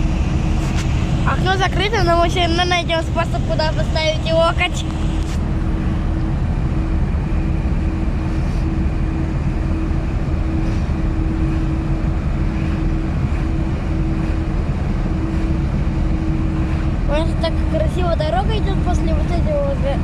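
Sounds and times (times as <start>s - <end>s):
car engine and road rumble: 0.0s - 20.0s
constant drone: 0.0s - 20.0s.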